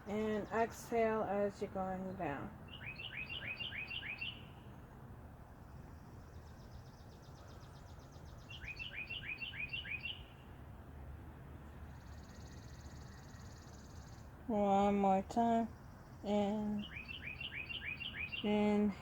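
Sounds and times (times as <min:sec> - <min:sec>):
low background noise: 0:00.0 - 0:19.0
songbirds chirping and trilling: 0:00.0 - 0:19.0.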